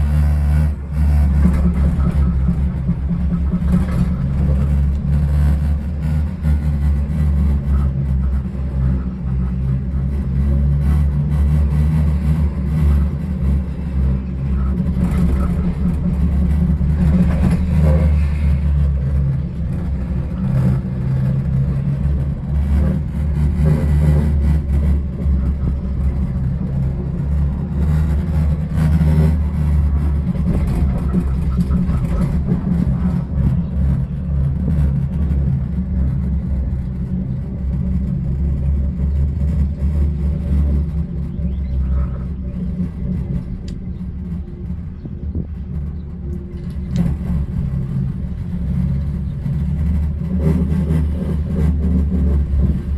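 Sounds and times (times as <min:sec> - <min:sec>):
cable car running: 0:00.0 - 0:52.9
low machinery rumble: 0:00.0 - 0:52.9.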